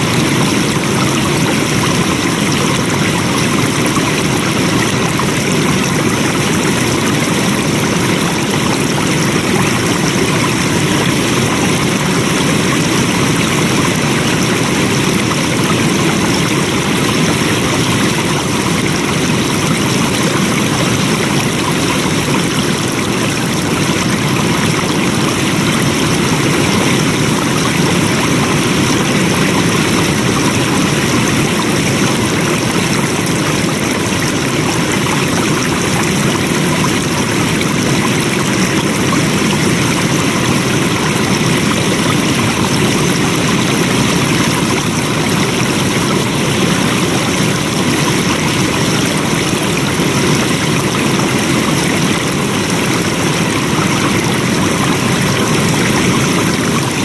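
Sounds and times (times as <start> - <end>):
stream water rushing and trickling: 0.0 - 57.0.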